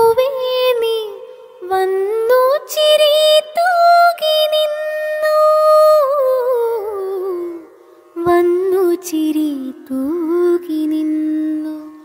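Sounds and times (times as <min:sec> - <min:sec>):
woman singing slow song: 0:00.0 - 0:12.0.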